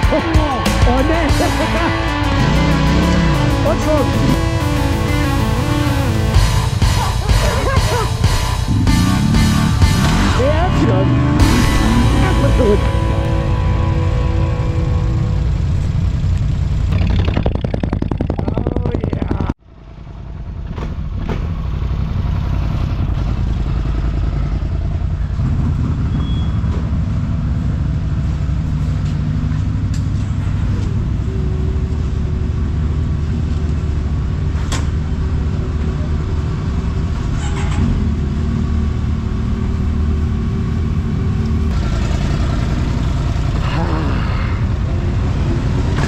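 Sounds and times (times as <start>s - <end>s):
engines idling: 0.0s - 46.0s.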